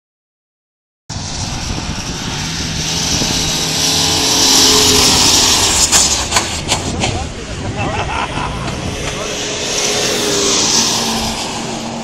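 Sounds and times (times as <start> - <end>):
suv engine running hard: 1.1 - 12.0.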